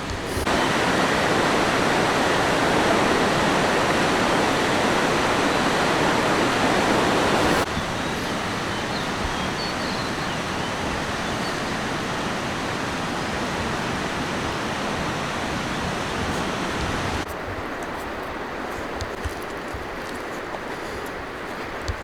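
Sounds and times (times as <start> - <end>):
rushing water roar: 0.0 - 22.0.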